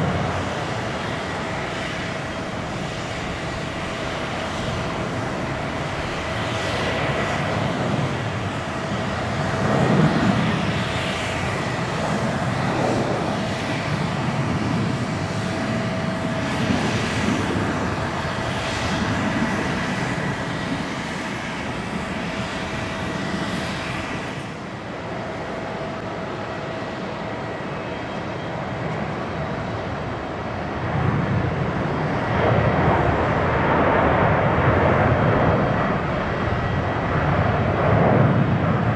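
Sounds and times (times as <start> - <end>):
jet engines roaring with whine: 0.0 - 38.9.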